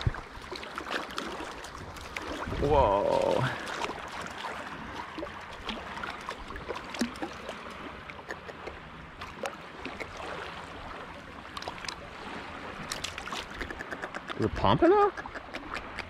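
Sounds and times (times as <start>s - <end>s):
small splashes: 0.0s - 14.3s
water lapping at shoreline: 0.0s - 16.0s.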